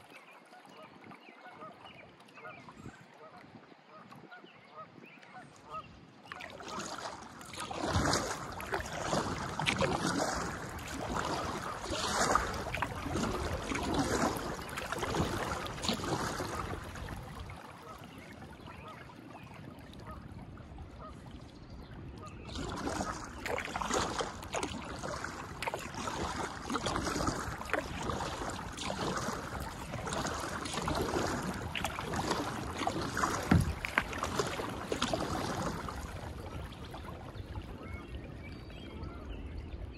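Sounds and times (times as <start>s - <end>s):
paddle strokes splashing: 0.0s - 39.2s.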